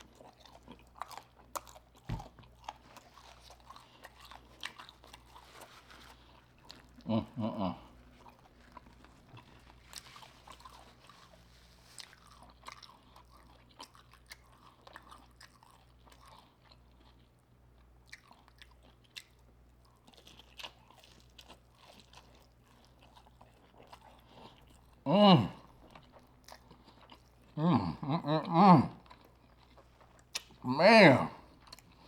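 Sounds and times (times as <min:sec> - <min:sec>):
chewing crispy food: 0:00.0 - 0:32.0.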